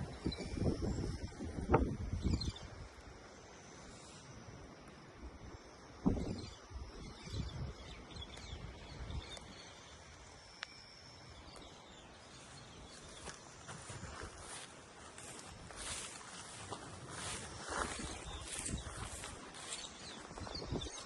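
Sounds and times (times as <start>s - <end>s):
faint bird chirps: 0.1s - 4.4s, 6.0s - 21.0s.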